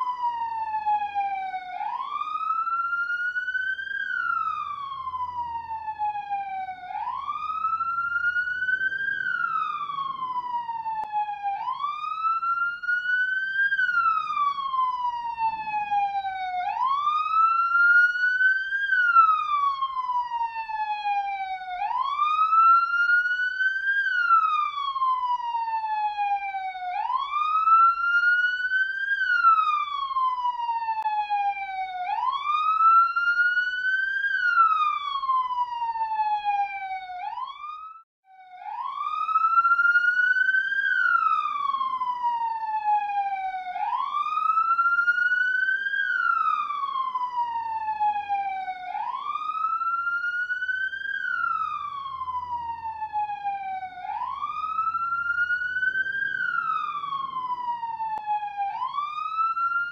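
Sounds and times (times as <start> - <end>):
police siren wailing: 0.0 - 59.9.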